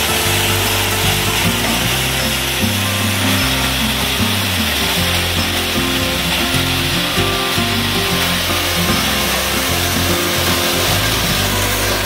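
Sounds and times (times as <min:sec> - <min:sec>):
background music with bass line: 0:00.0 - 0:12.0
grain crusher grinding corn: 0:00.0 - 0:12.0.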